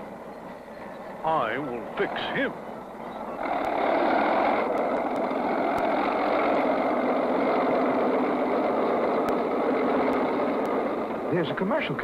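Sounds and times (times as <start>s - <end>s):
cartoon tank engine: 1.2s - 12.0s.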